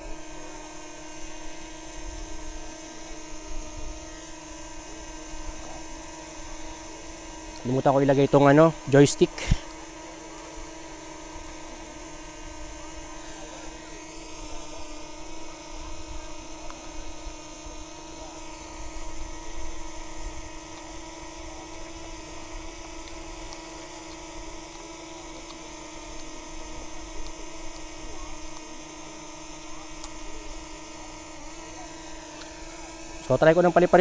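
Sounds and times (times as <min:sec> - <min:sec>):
steady multi-tone hum: 0:00.0 - 0:34.0.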